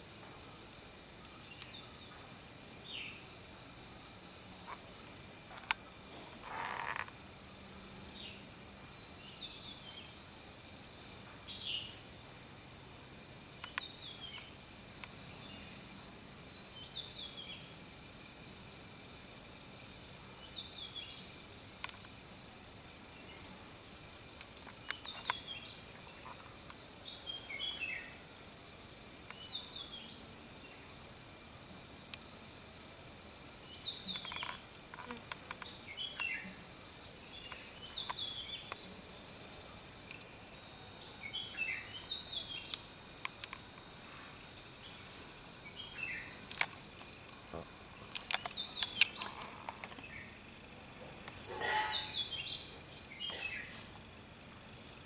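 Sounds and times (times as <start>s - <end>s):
soft bird chirps and twittering: 1.1s - 12.0s, 13.2s - 17.9s, 23.0s - 31.0s, 31.6s - 54.3s.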